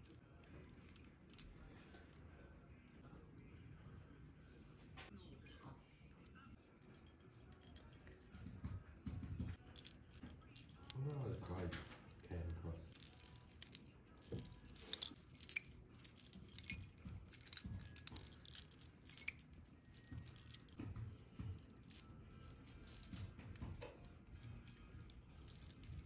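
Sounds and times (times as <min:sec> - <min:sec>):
charm bracelet jingling: 0:00.0 - 0:03.0, 0:05.9 - 0:26.0.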